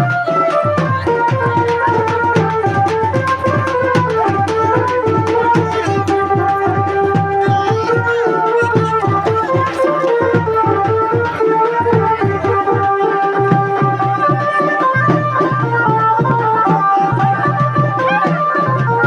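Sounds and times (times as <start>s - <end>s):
fast drum rhythm: 0.0s - 19.0s
long-held melody line: 0.0s - 19.0s.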